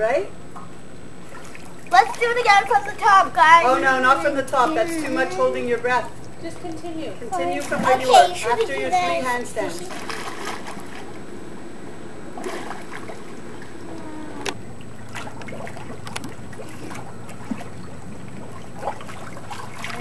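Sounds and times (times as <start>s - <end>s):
low background hum: 0.0s - 20.0s
pool water splashing: 0.8s - 20.0s.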